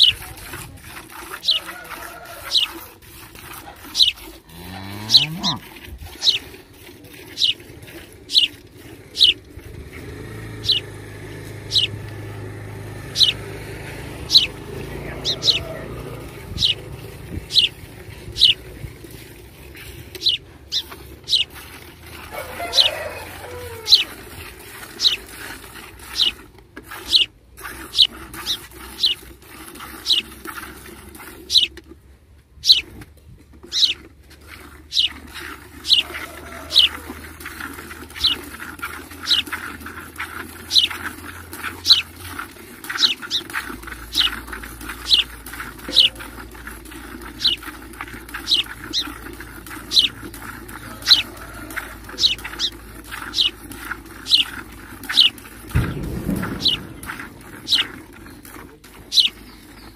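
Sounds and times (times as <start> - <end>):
milk squirting into pail: 0.0 - 59.9.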